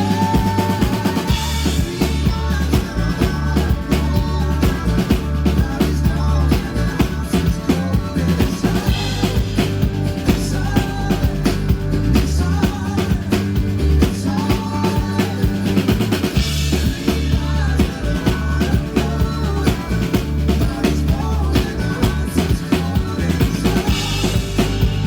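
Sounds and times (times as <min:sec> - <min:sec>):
drum kit rock beat: 0:00.0 - 0:25.0
live rock band over loudspeakers: 0:00.0 - 0:25.0.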